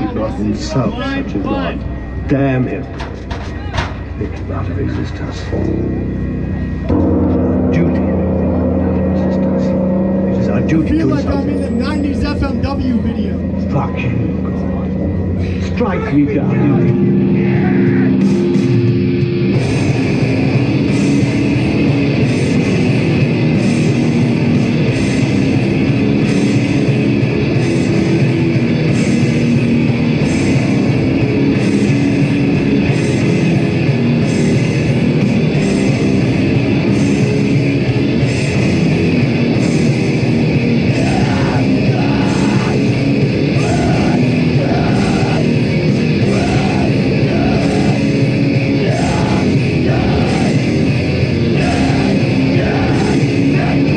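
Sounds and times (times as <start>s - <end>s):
distorted guitar: 0.0s - 53.9s
drums: 0.0s - 53.9s
yelled vocals: 9.8s - 53.9s.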